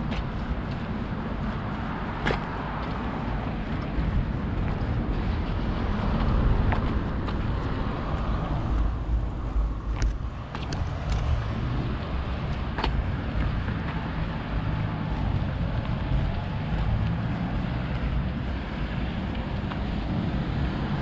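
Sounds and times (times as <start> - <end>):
bicycle road noise: 0.0 - 21.0
wind buffeting microphone: 0.0 - 21.0.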